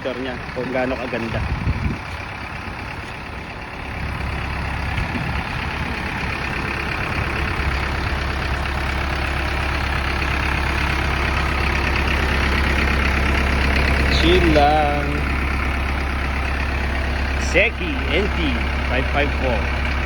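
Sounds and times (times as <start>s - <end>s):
rotavator spinning: 0.0s - 20.0s
tractor diesel engine running: 0.0s - 20.0s.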